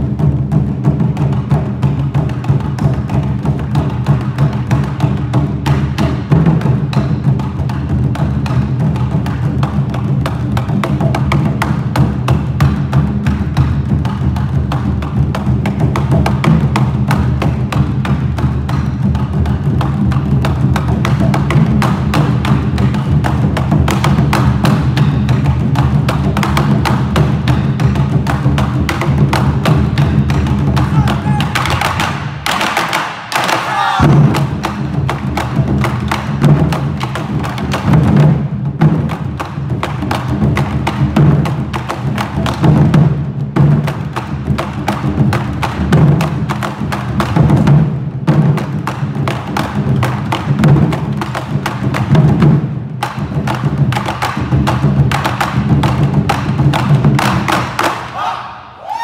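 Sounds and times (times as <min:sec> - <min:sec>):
taiko drums playing fast rhythm: 0:00.0 - 0:58.2.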